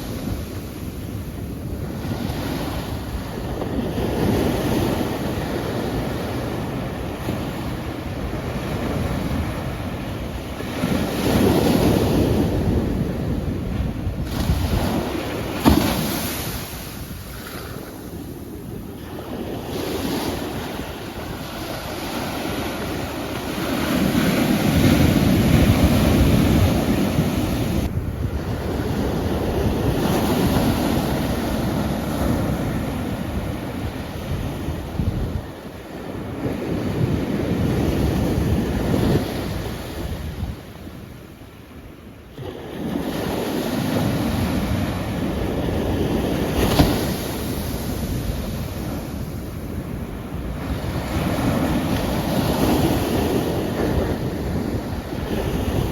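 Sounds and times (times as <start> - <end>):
wind buffeting microphone: 0.0 - 41.1, 42.4 - 55.9
ocean waves breaking on shore: 0.0 - 55.9.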